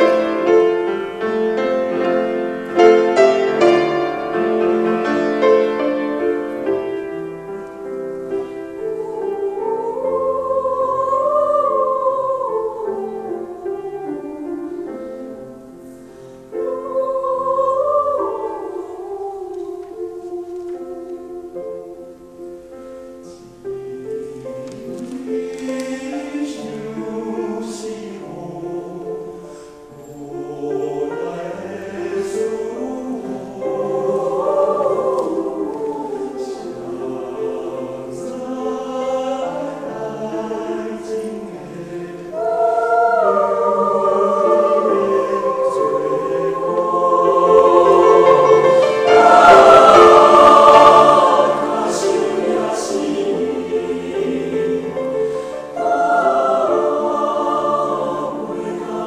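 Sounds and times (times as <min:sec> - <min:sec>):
mixed choir singing: 0:00.0 - 0:59.0
piano accompaniment: 0:00.0 - 0:59.0.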